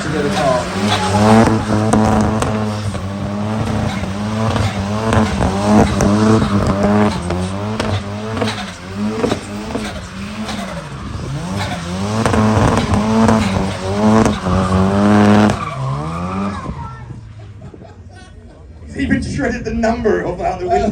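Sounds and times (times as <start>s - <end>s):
tyres squealing: 0.0s - 17.4s
car engine revving: 0.0s - 17.7s.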